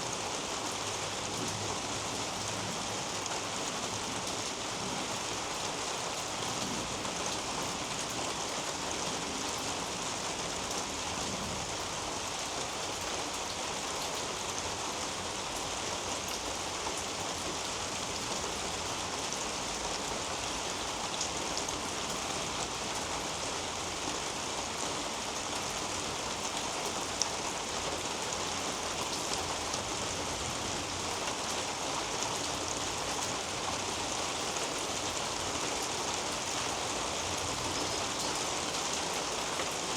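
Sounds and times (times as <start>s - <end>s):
rain on foliage and roof: 0.0s - 39.9s.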